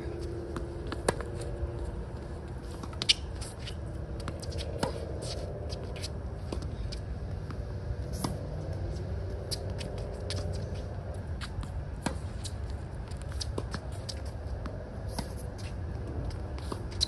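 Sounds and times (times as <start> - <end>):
shoes scuffing on court: 0.1 - 17.0.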